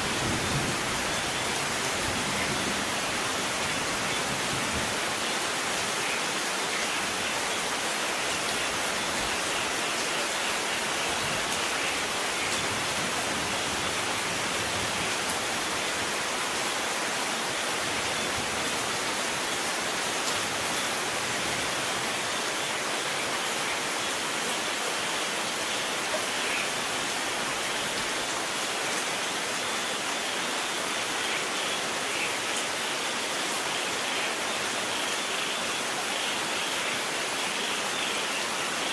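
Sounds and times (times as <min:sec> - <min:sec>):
heavy rain hissing: 0:00.0 - 0:38.9
patter of raindrops: 0:00.0 - 0:38.9.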